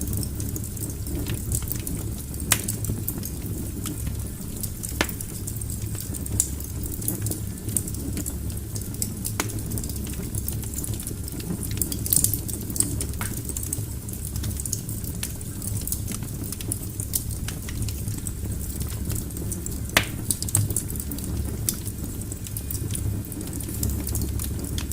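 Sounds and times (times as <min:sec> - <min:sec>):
fire flames rumbling: 0:00.0 - 0:24.9
logs crackling and popping: 0:00.1 - 0:24.9.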